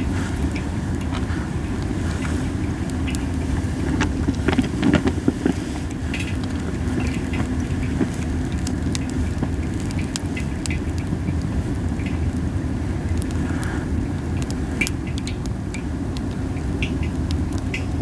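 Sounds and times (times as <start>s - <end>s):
wind rumble on microphone: 0.0s - 18.0s
wood fire crackling and popping: 0.0s - 18.0s.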